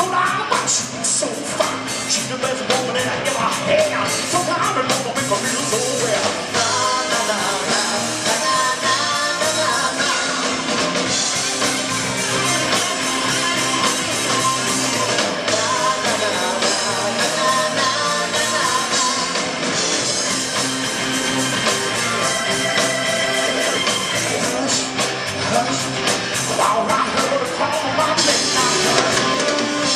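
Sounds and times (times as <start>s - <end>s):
live rock band playing: 0.0s - 29.9s.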